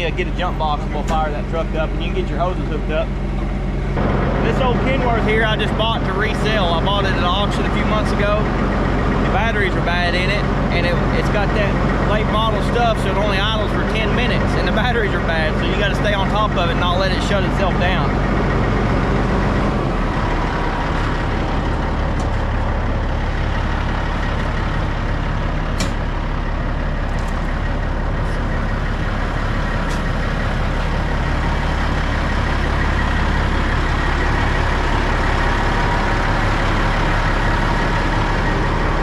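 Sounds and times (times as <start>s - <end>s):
diesel truck engine idling: 0.0s - 39.0s.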